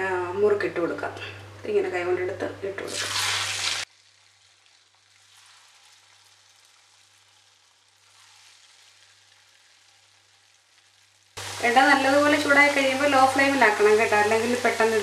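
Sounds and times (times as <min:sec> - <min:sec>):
dough sizzling in hot oil: 0:02.9 - 0:15.0.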